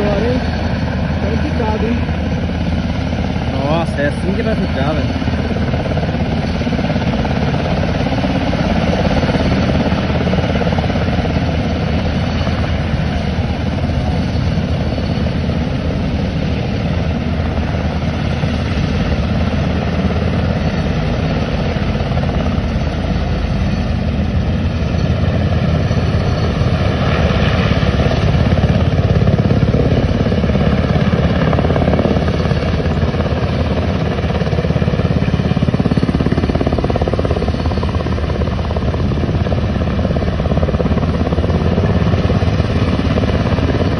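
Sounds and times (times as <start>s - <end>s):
helicopter rotor and turbine engines: 0.0s - 43.9s.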